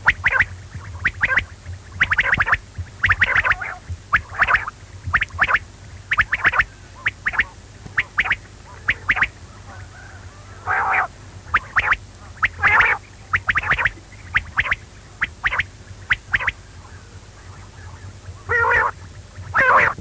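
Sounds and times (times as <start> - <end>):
quail calling: 0.0 - 20.0.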